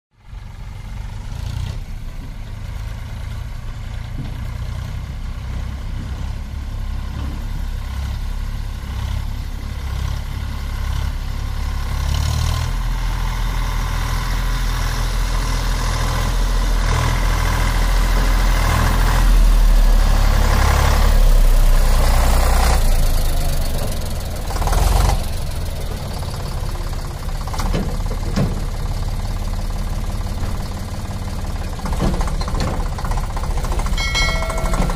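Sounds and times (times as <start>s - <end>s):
tractor diesel engine running under load: 0.1s - 34.9s.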